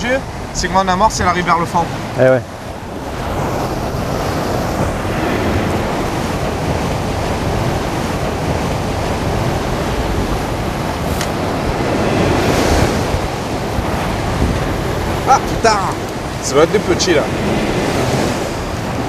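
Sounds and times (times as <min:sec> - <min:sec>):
waves breaking on rocks: 0:00.0 - 0:19.0
wind buffeting microphone: 0:00.0 - 0:19.0.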